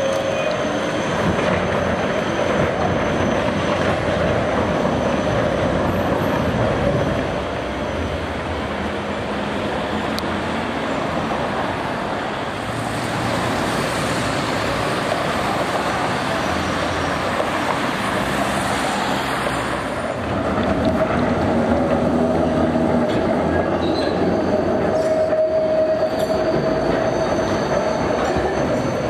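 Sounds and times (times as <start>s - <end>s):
rumbling vehicle noise: 0.0s - 29.0s.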